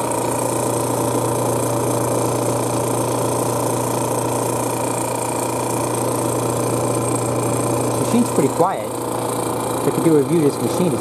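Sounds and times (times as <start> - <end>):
compressor humming: 0.0 - 11.0.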